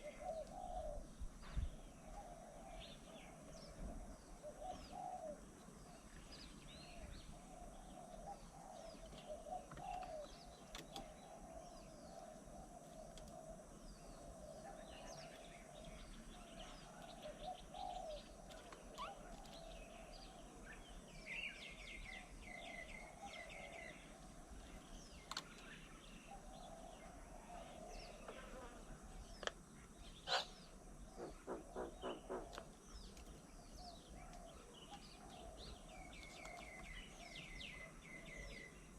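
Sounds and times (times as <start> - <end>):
wild birds chirping: 0.0 - 38.9.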